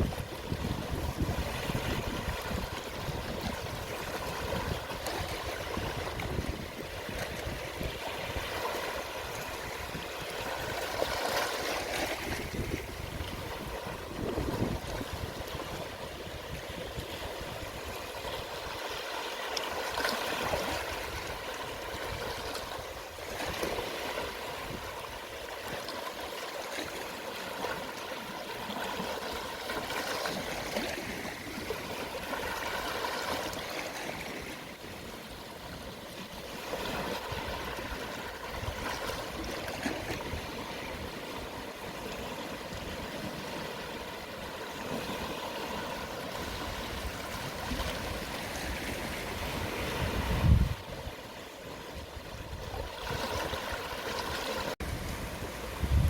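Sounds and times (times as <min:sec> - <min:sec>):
gentle sea waves: 0:00.0 - 0:56.0.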